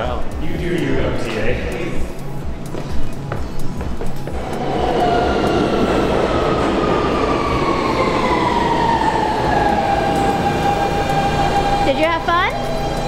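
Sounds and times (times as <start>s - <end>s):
subway train wheels rumbling: 0.0s - 13.0s.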